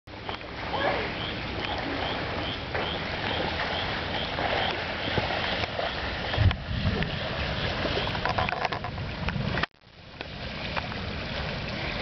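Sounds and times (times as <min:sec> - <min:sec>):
rain falling on standing water: 0:00.1 - 0:12.0.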